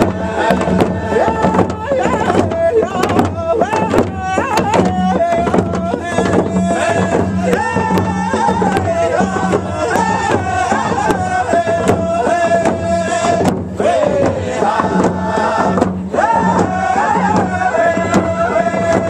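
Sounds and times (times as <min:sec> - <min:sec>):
men chanting a song: 0:00.0 - 0:19.0
steady drumbeat: 0:00.0 - 0:19.0.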